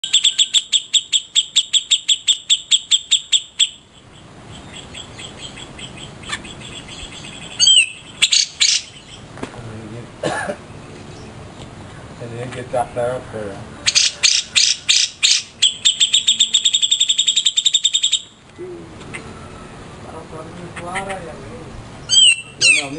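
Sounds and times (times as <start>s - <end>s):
songbird chirping: 0.0s - 9.4s, 10.7s - 21.3s, 22.0s - 22.9s
wavering bird calls: 0.0s - 9.4s, 10.7s - 20.0s, 22.0s - 22.9s.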